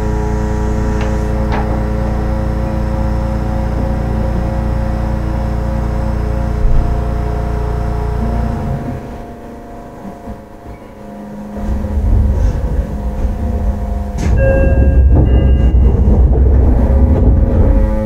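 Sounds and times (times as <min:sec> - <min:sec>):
electric train motor and inverter tones: 0:00.0 - 0:18.0
high whines: 0:00.0 - 0:18.0
wheel-on-rail rumble: 0:00.0 - 0:18.0.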